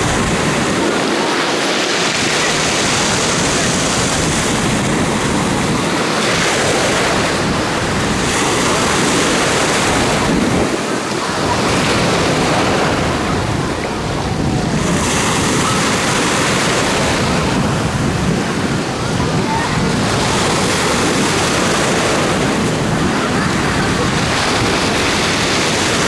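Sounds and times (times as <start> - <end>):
small waves washing ashore: 0.0 - 26.0
wind on microphone: 0.0 - 26.0.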